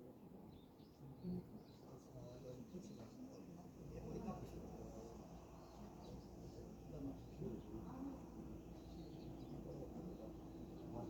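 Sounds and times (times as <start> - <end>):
distant murmur of voices: 0.1 - 11.0.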